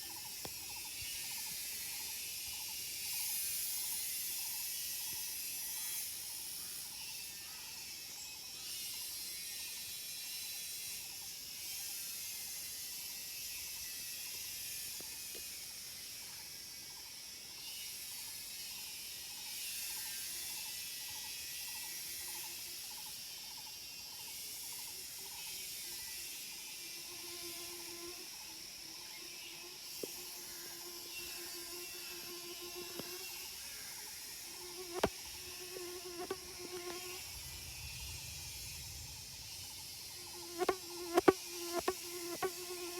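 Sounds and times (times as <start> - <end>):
cicadas shrilling: 0.0 - 42.9.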